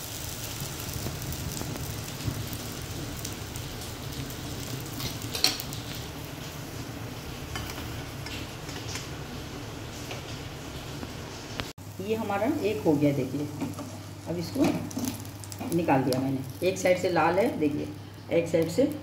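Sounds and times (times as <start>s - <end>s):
batter sizzling in pan: 0.0s - 19.0s.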